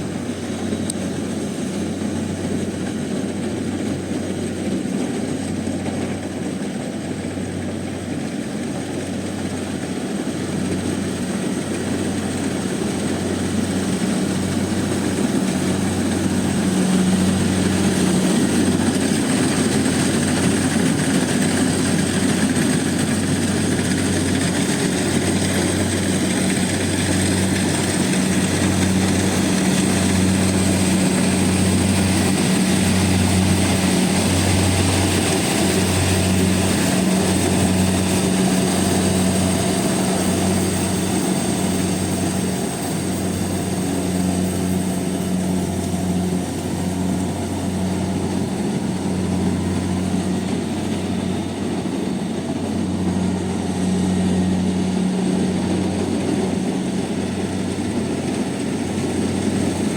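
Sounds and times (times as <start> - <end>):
combine harvester engine drone: 0.0 - 59.9
rushing noise of threshing: 0.0 - 59.9.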